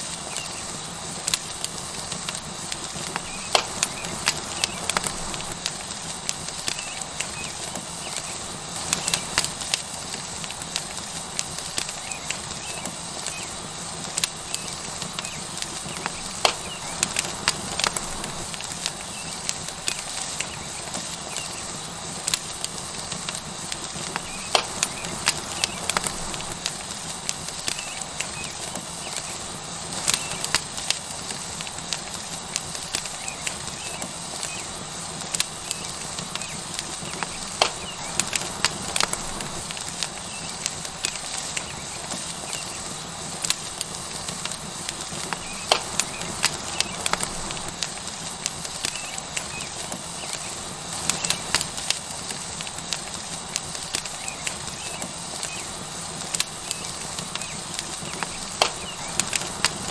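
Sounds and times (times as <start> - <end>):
sharp pops and crackles: 0.0 - 59.9
steak sizzling on hot rock: 0.0 - 59.9.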